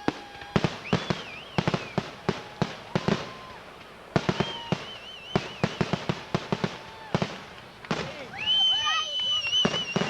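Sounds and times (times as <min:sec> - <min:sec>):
fireworks bangs: 0:00.0 - 0:10.0
whistling fireworks: 0:00.0 - 0:10.0.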